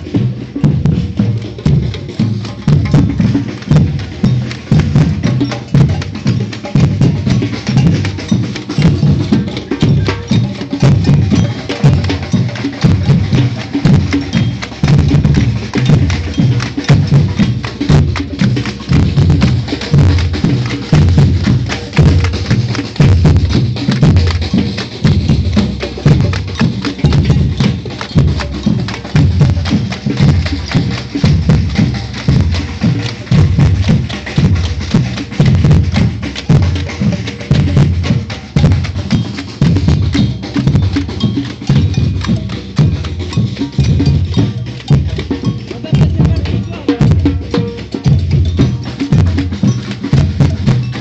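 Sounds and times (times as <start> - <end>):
deep bass drums: 0.0 - 51.0
samba percussion ensemble: 0.0 - 51.0.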